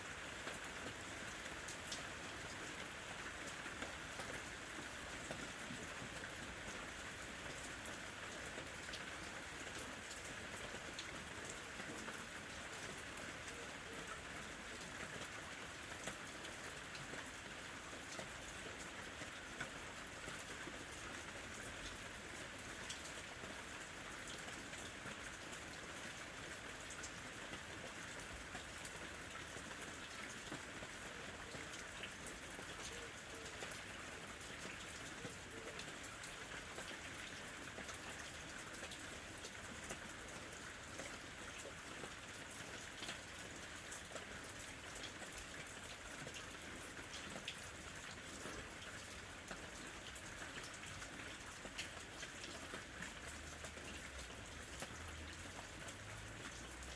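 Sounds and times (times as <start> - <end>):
rain on a window: 0.0 - 56.9.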